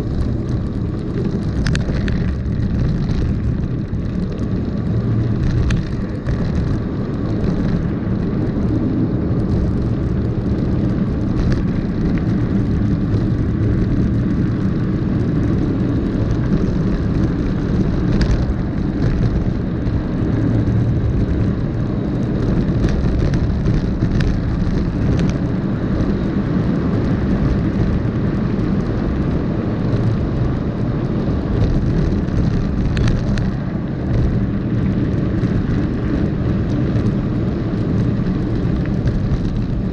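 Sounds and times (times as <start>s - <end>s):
tyres rolling over gravel: 0.0s - 39.9s
wind rushing over microphone: 0.0s - 39.9s.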